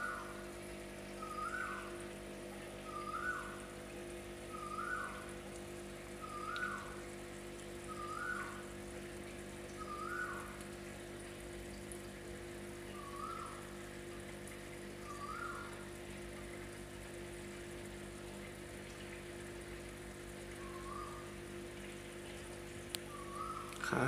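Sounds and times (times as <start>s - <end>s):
air bubbling through filters: 0.0s - 24.0s.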